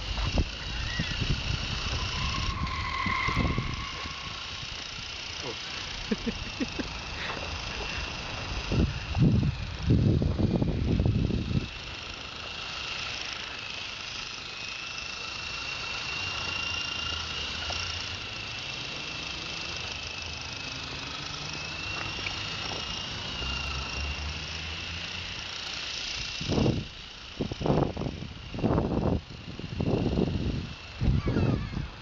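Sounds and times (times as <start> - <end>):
rc helicopter rotor whine: 0.0 - 32.0.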